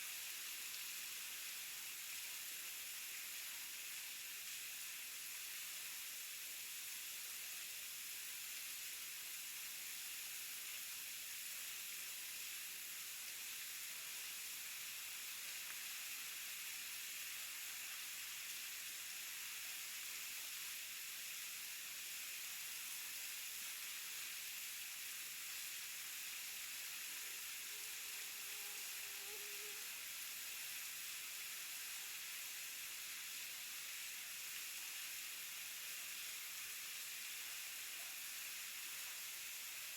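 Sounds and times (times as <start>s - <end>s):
waterfall hiss: 0.0s - 39.9s.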